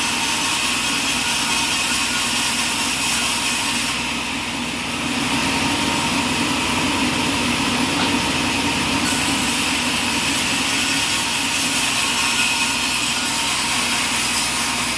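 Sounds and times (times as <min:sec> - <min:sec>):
sawmill machinery running: 0:00.0 - 0:14.9.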